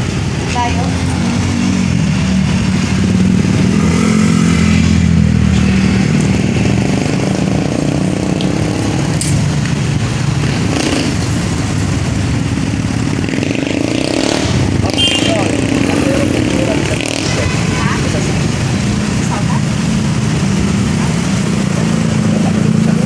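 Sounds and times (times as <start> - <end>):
street traffic rumble: 0.0 - 23.0
vehicle engine running: 0.0 - 23.0.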